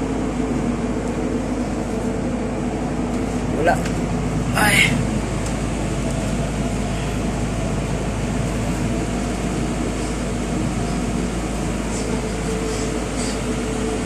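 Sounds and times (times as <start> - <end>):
higher steady hum: 0.0 - 14.0
machinery drone: 0.0 - 14.0.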